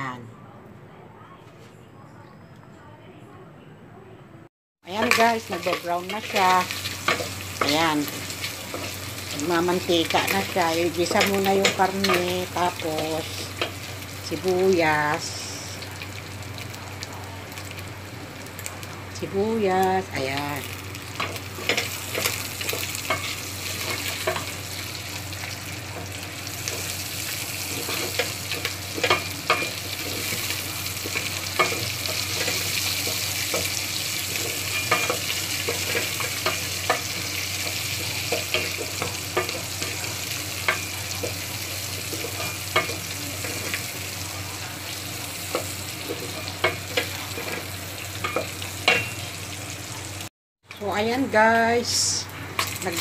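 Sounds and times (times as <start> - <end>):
meat and onions sizzling: 4.9 - 53.0.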